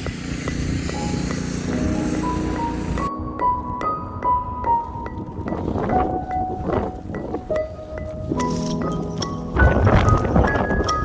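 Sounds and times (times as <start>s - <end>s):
wind noise on microphone: 0.0s - 11.0s
piano-like music: 0.3s - 11.0s.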